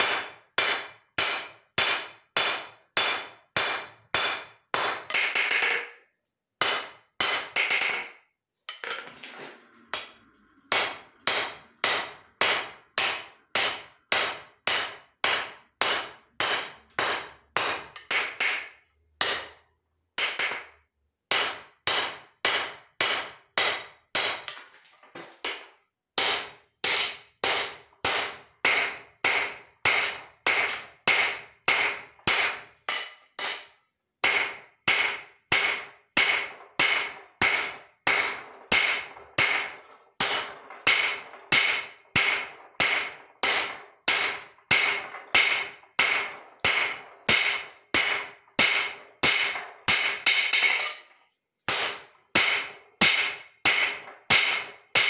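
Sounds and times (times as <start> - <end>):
hammer striking steel on anvil: 0.0 - 6.0, 6.6 - 8.2, 9.4 - 19.6, 20.2 - 24.6, 25.4 - 55.0.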